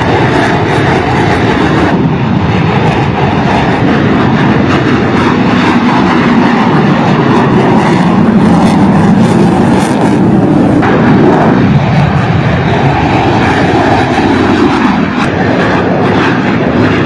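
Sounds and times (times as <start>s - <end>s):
fighter jet flying overhead: 0.0s - 17.0s.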